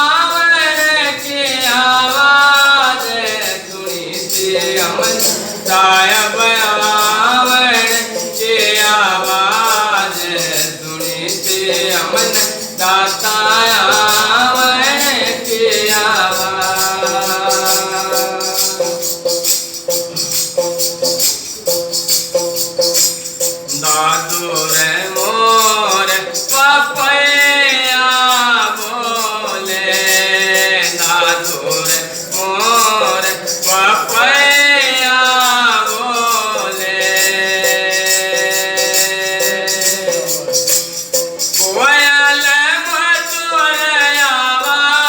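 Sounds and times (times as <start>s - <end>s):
harmonium melody: 0.0s - 45.0s
jingling percussion: 0.0s - 45.0s.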